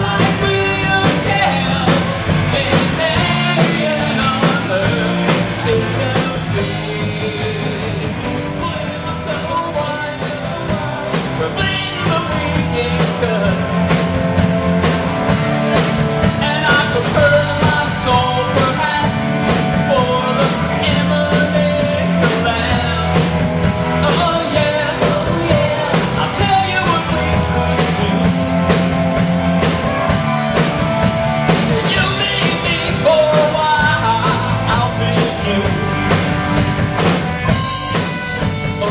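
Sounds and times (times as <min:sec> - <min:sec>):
person singing: 0:00.0 - 0:14.4, 0:15.8 - 0:30.4, 0:31.5 - 0:38.9
live rock band playing: 0:00.0 - 0:38.9
steady drum beat: 0:00.0 - 0:38.9.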